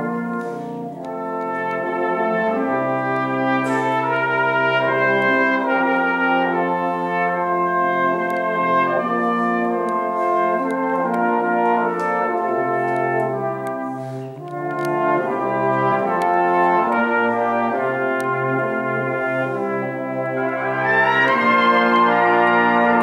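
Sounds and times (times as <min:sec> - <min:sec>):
brass band chords: 0:00.0 - 0:23.0
cornet solo melody: 0:00.0 - 0:23.0.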